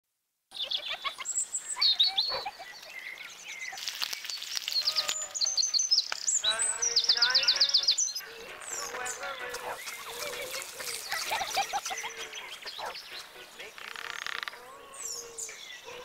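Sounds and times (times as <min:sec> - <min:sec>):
birds singing and chirping: 0:00.5 - 0:16.0.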